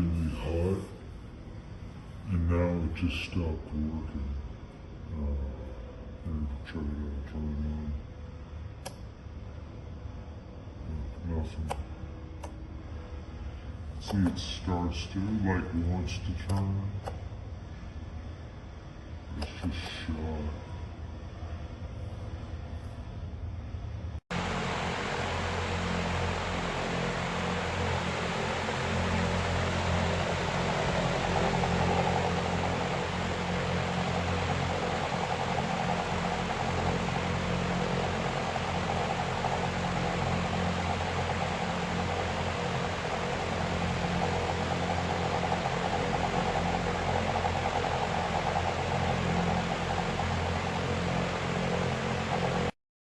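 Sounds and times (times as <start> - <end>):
electric fan whirring: 0.0 - 52.8.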